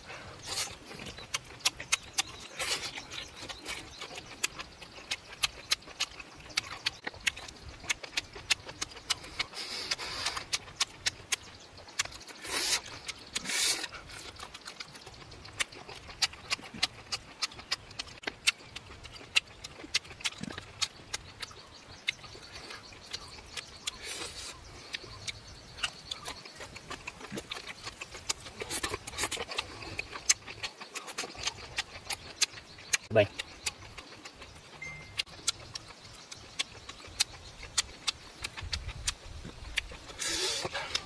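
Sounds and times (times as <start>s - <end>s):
chewing and lip-smacking: 0.0s - 41.0s.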